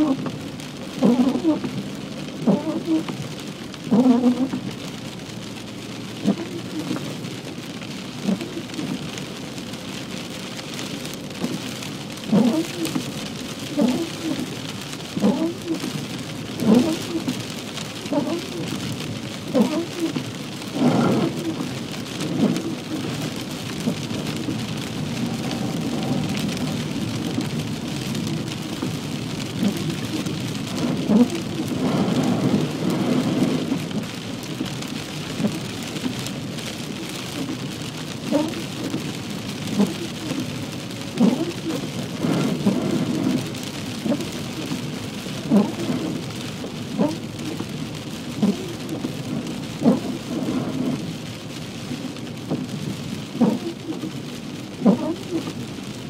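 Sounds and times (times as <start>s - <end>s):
heavy rain on car: 0.0s - 56.0s.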